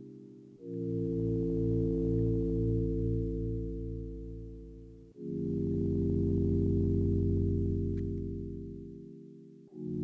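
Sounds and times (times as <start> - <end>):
low keyboard chords: 0.0 - 10.0.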